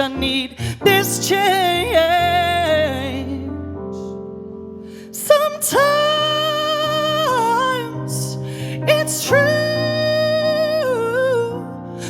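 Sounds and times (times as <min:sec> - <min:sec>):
woman singing: 0:00.0 - 0:03.5, 0:05.1 - 0:11.6.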